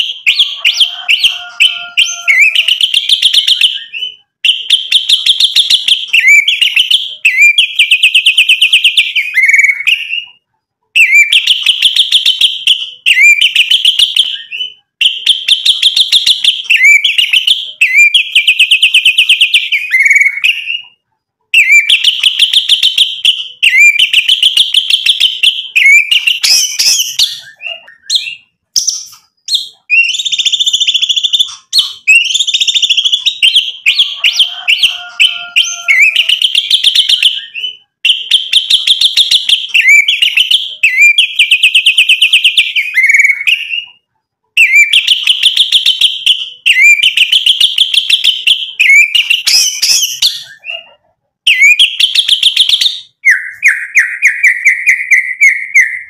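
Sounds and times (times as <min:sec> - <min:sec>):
bird singing whistled phrases: 0:00.0 - 0:10.4, 0:11.0 - 0:21.0, 0:21.6 - 0:44.0, 0:44.6 - 0:50.9, 0:51.5 - 0:56.0.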